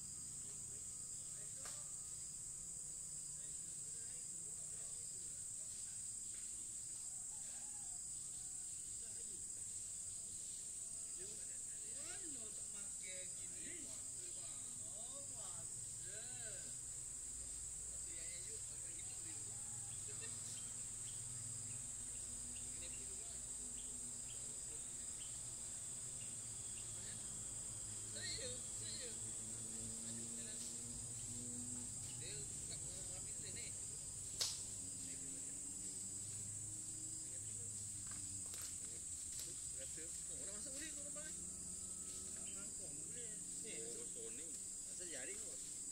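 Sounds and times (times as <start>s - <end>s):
forest insects droning: 0.0s - 45.9s.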